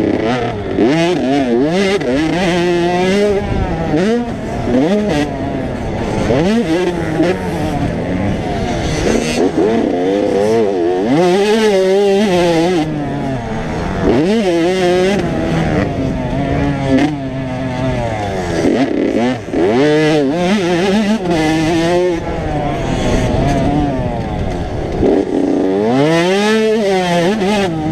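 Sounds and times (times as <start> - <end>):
motocross bike engines revving: 0.0 - 27.9.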